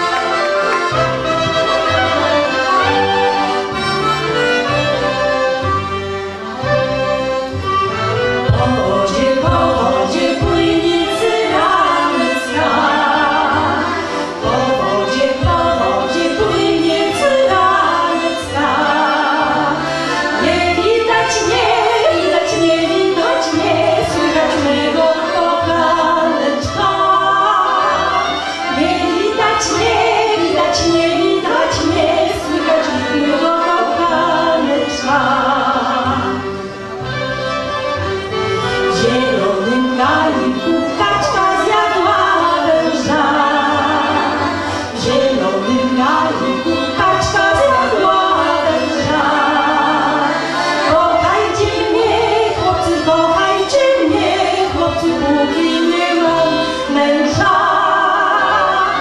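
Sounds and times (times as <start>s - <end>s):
folk band playing: 0.0s - 59.0s
women singing together: 8.4s - 36.6s, 38.7s - 59.0s.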